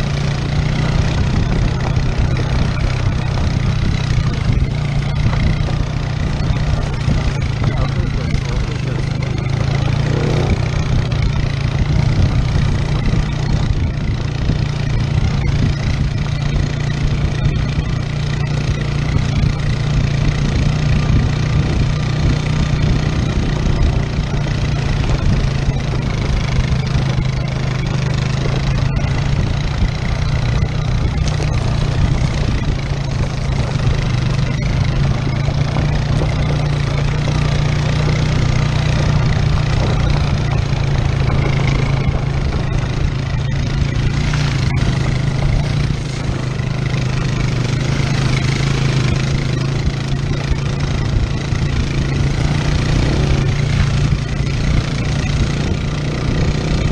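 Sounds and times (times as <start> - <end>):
atv engine droning: 0.0 - 56.9.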